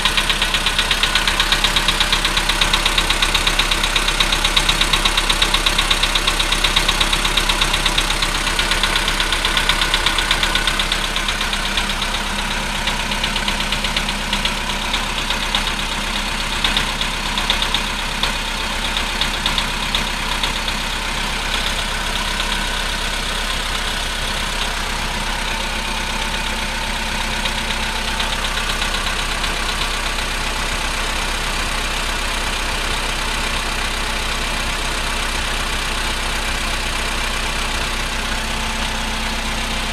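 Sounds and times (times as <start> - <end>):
cold car engine idling with knocking: 0.0 - 39.9.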